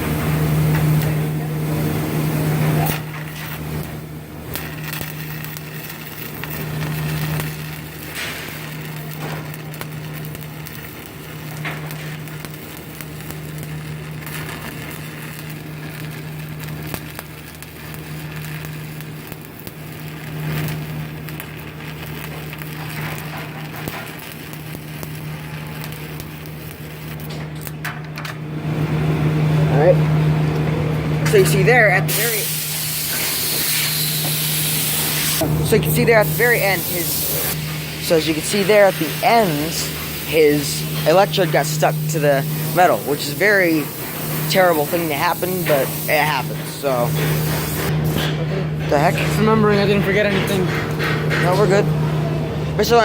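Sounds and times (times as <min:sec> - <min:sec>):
welding arc crackling: 0:00.0 - 0:53.0
welding machine humming: 0:00.0 - 0:53.0.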